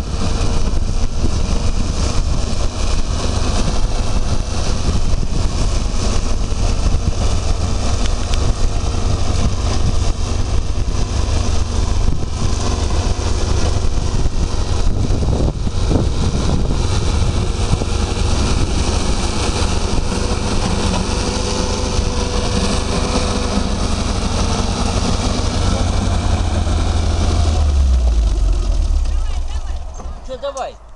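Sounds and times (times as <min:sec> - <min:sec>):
tractor engine running under load: 0:00.0 - 0:30.9.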